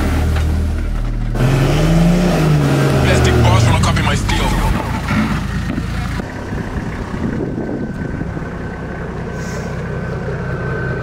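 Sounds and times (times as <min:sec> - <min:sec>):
car engine idling: 0:00.0 - 0:11.0
driving noise: 0:00.0 - 0:11.0.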